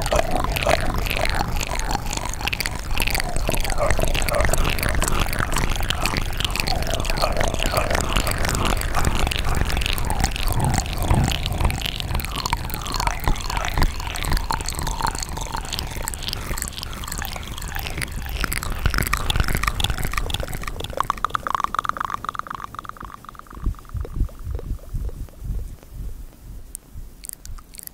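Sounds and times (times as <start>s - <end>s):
lip smacks: 0.0s - 26.1s, 26.7s - 27.9s
tongue clicks: 0.0s - 27.9s.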